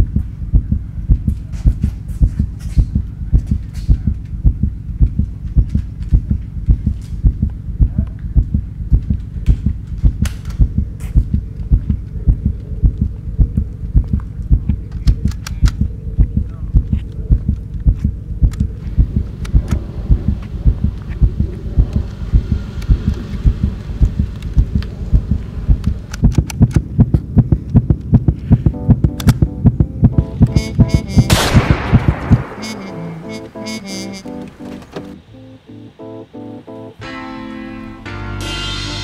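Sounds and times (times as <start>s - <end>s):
heartbeat thumps: 0.0s - 34.2s.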